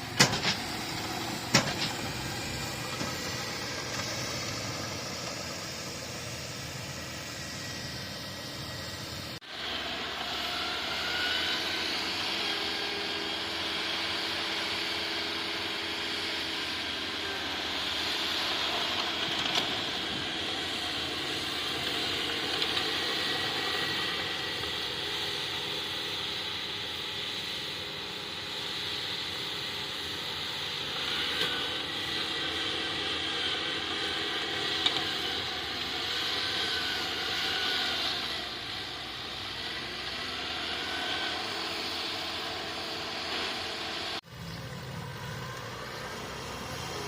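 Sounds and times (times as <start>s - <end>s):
bulldozer diesel engine: 0.0s - 47.0s.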